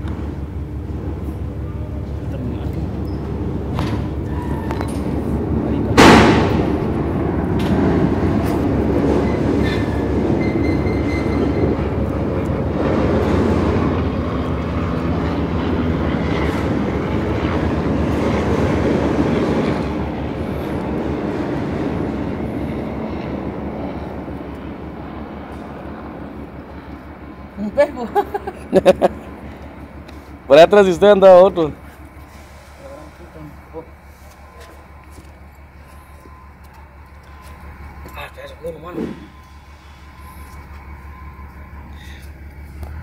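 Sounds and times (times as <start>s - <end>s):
large vehicle rumbling: 0.0s - 43.0s.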